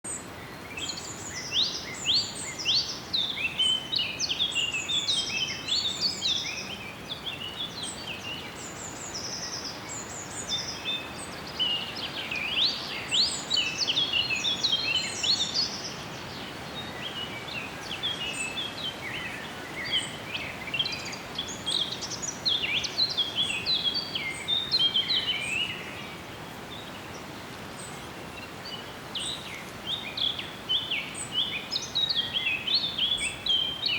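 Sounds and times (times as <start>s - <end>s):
songbirds singing and chirping: 0.0s - 33.9s
steady background hiss: 0.1s - 33.9s.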